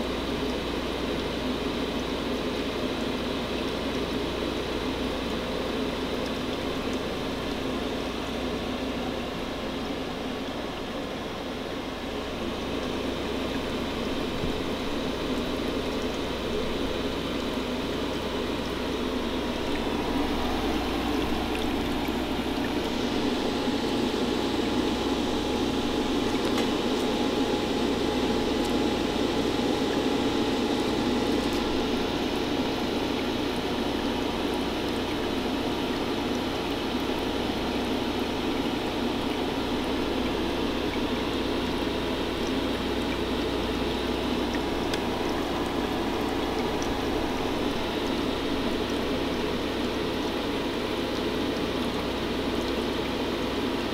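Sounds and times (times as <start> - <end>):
fan running: 0.0 - 53.9
water churning and bubbling: 0.0 - 53.9.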